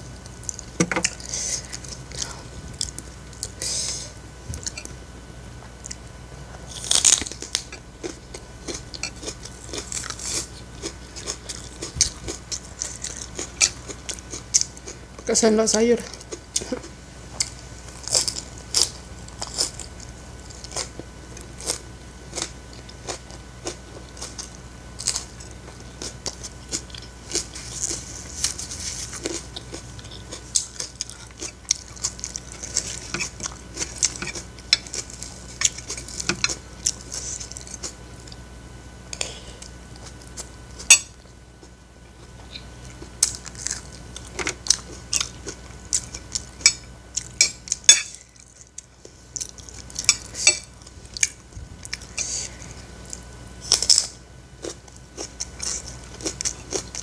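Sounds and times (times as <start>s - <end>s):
crunchy chewing: 0.1s - 5.0s, 5.6s - 15.3s, 16.1s - 57.0s.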